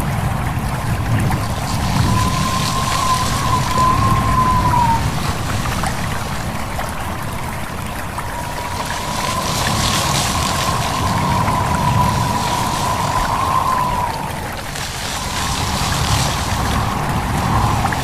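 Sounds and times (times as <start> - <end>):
stream running: 0.0 - 18.0
wind through leaves: 0.0 - 18.0
thin wavering whistle: 1.3 - 6.6, 7.5 - 18.0.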